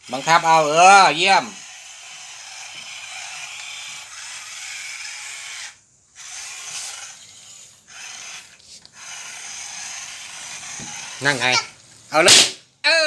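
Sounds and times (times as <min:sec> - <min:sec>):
toy motor and gears whirring: 0:00.0 - 0:12.6.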